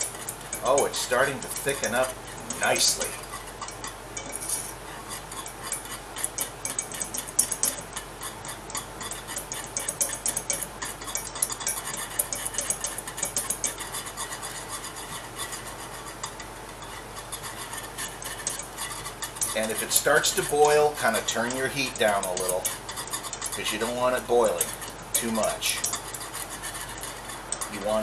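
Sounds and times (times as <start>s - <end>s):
metal whisk scraping a saucepan: 0.0s - 28.0s.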